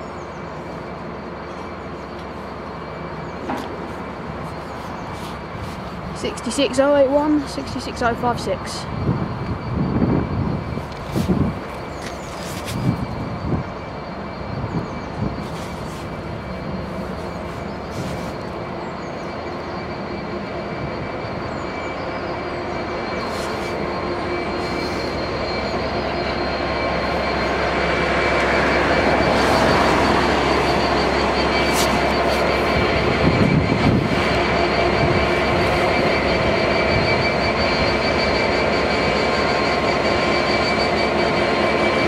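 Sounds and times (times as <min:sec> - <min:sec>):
diesel locomotive engine drone: 0:00.0 - 0:42.0
faint high whine: 0:00.0 - 0:42.0
train wheel rumble: 0:00.0 - 0:42.0.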